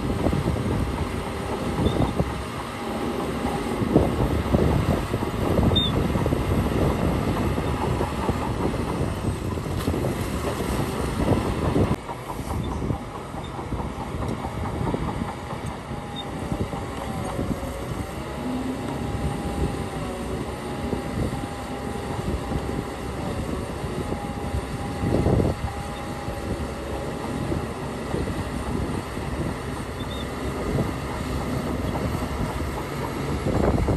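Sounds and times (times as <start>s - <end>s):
heavy diesel machinery rumbling: 0.0s - 33.9s
steady machine whine: 0.0s - 33.9s.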